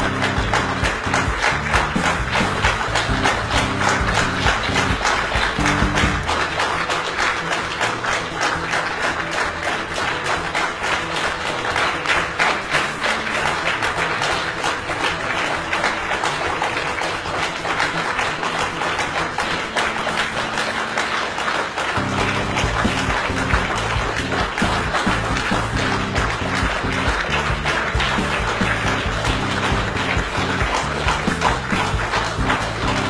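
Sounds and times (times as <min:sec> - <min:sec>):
audience applauding: 0:00.0 - 0:33.0.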